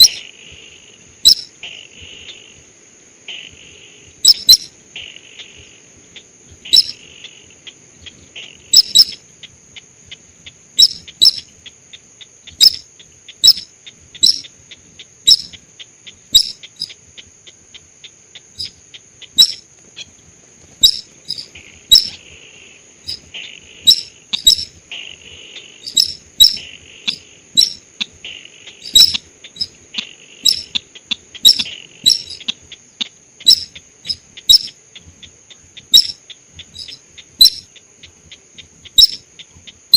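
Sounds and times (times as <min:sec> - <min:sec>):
bird call notes: 0:00.0 - 0:00.3, 0:01.2 - 0:02.4, 0:04.2 - 0:11.8, 0:12.5 - 0:20.1, 0:20.8 - 0:22.4, 0:23.1 - 0:39.9.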